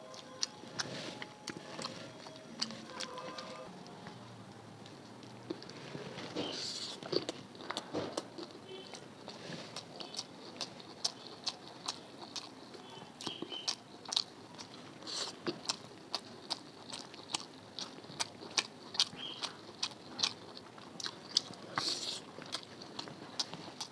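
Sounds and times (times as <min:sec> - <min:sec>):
person chewing food: 0:00.0 - 0:04.2, 0:04.8 - 0:23.9.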